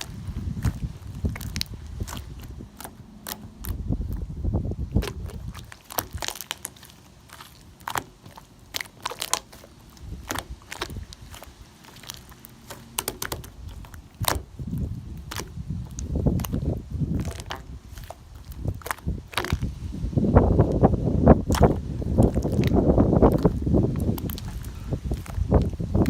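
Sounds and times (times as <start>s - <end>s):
low rumbling handling noise: 0.0s - 26.0s.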